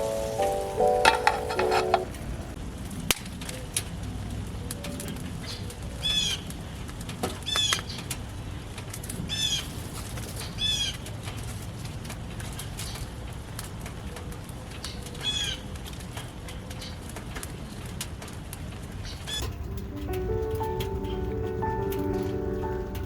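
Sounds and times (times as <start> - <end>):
rain: 0.0 - 23.0.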